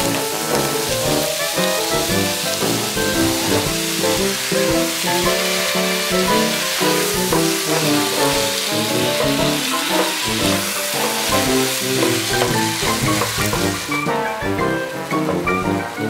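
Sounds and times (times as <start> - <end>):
wooden spoon stirring: 0.0 - 14.0
food sizzling in a frying pan: 0.0 - 15.5
background music: 0.0 - 16.0.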